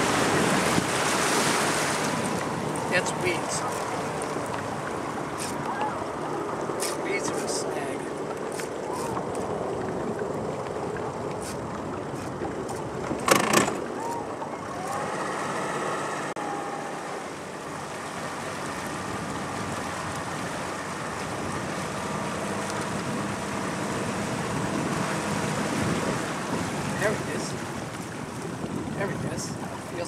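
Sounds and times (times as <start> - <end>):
fishing boat noise: 0.0 - 30.0.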